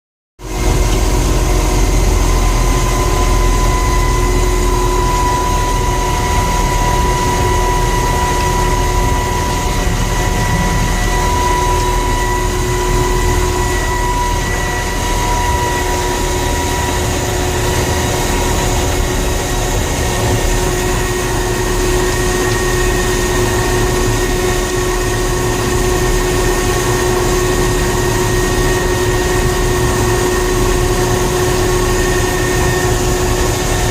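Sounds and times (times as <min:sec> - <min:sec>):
heavy engine rumbling: 0:00.4 - 0:33.9
steady whine: 0:00.4 - 0:33.9.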